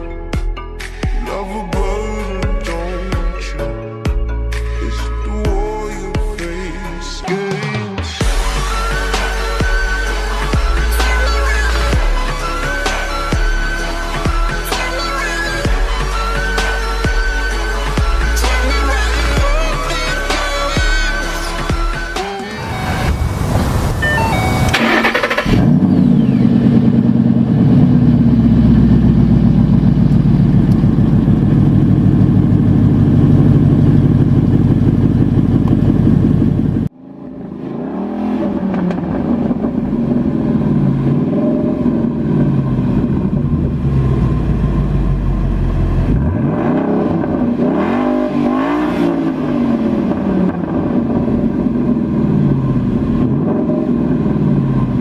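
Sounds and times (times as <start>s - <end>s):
car engine revving: 8.2s - 55.0s.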